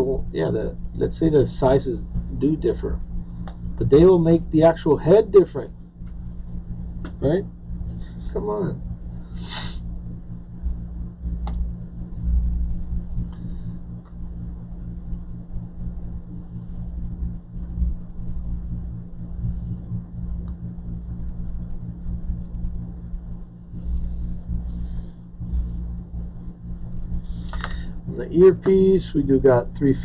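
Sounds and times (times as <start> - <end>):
electrical hum: 0.0 - 30.0
low rumble: 0.0 - 30.0.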